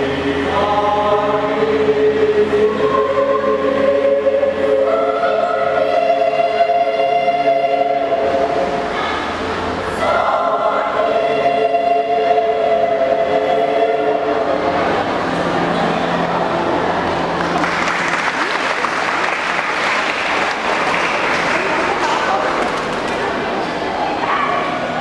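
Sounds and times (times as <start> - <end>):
choir singing held chords: 0.0 - 25.0.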